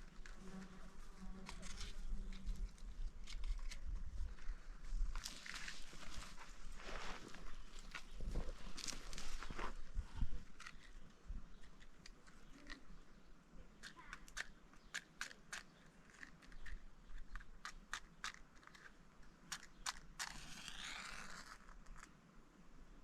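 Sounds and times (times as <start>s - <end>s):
small crisp clicks and crunches: 1.4s - 6.5s, 7.2s - 9.8s, 10.4s - 13.0s, 13.8s - 22.1s.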